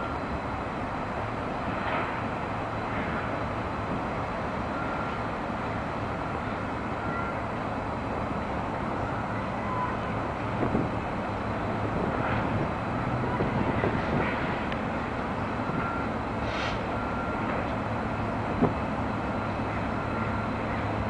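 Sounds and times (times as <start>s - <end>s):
city traffic noise: 0.0s - 21.0s
distant diesel locomotive drone: 0.0s - 21.0s.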